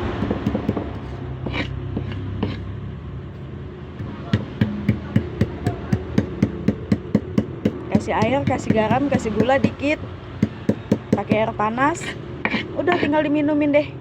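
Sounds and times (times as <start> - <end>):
pestle pounding in a mortar: 0.0 - 2.7, 4.0 - 13.2.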